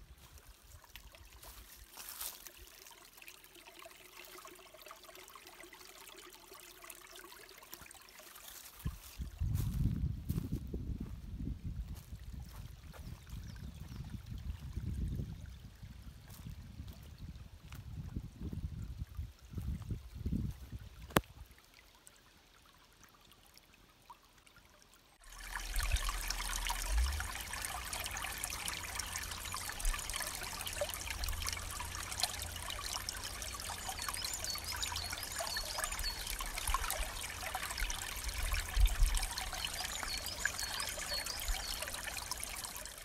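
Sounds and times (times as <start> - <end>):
stream trickling and splashing: 0.0 - 43.0.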